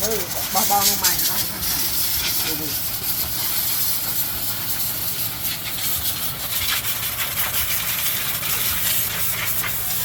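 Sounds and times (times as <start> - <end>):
engine humming: 0.0 - 10.0
high-pressure water spray hissing: 0.0 - 10.0.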